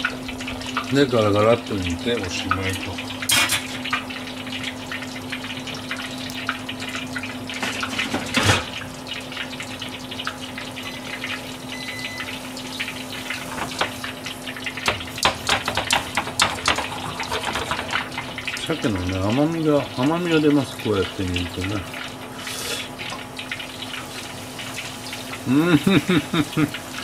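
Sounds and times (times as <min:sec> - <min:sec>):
broth bubbling and crackling: 0:00.0 - 0:27.0.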